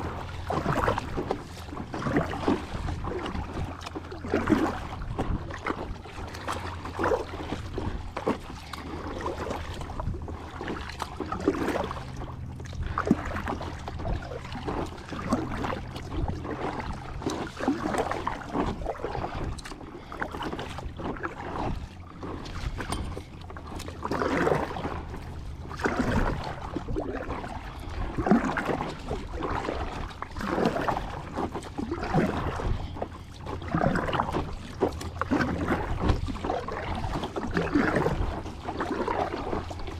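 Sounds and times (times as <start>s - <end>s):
kayak paddle splashing in water: 0.0s - 39.9s
steady low rumble: 0.0s - 39.9s.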